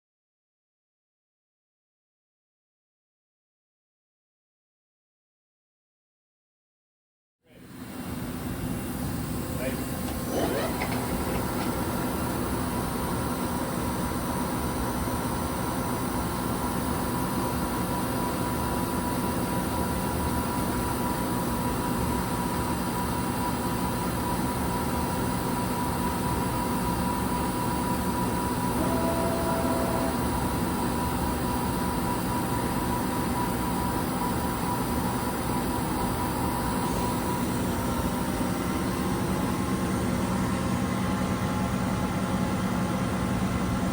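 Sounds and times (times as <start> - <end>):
lathe humming and whining: 7.7 - 43.9.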